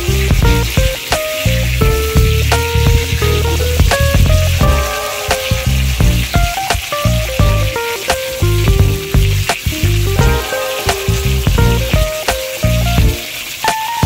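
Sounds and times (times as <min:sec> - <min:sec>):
background music: 0:00.0 - 0:14.0
potatoes sizzling in hot oil: 0:00.0 - 0:14.0.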